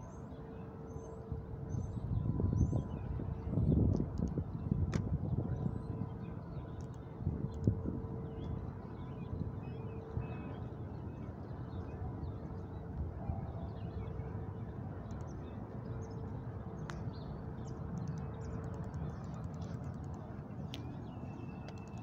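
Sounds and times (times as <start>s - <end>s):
faint constant hum: 0.0s - 22.0s.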